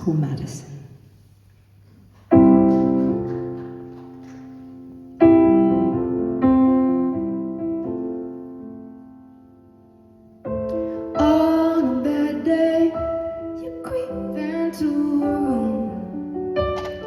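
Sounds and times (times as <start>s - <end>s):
slow piano chords: 1.7s - 17.0s.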